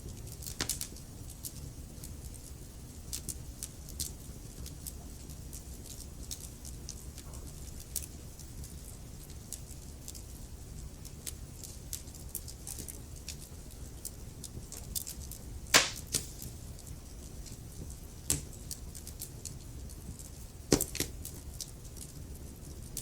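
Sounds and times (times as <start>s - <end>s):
wood fire crackling: 0.1s - 23.0s.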